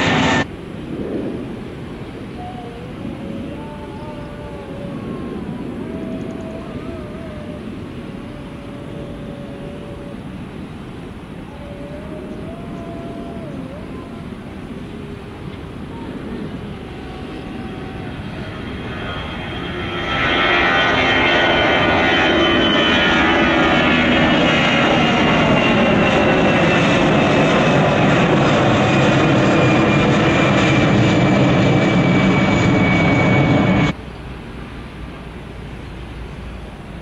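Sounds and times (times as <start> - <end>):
jet engine high whine: 0.0 - 34.0
jet engine roar: 0.0 - 34.0.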